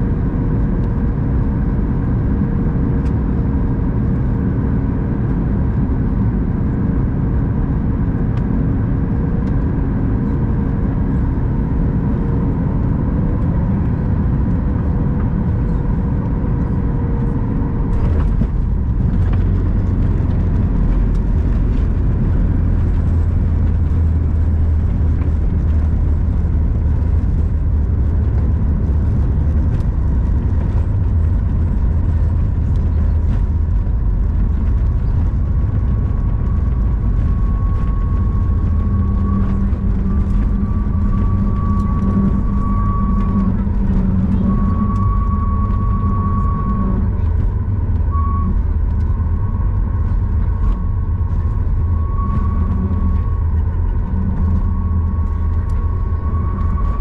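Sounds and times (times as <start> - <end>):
jet engine hum with whine: 0.0 - 57.0
wheels rumbling on runway: 0.0 - 57.0.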